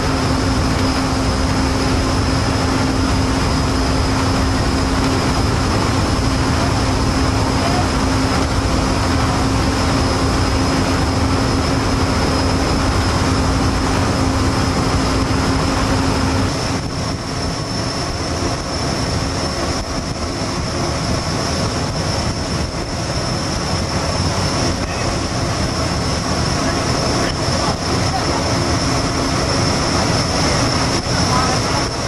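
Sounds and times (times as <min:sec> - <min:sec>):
boat engine hum: 0:00.0 - 0:32.0
wind and water rushing: 0:00.0 - 0:32.0.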